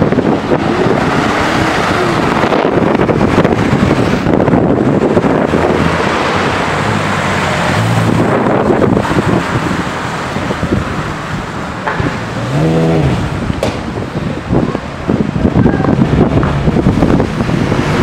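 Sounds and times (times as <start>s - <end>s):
car engine driving off: 0.0s - 18.0s
wind buffeting microphone: 0.0s - 18.0s.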